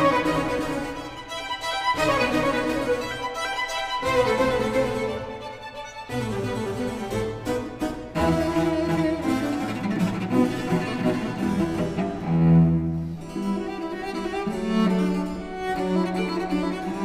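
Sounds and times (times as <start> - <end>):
bowed strings sustained notes: 0.0 - 17.0.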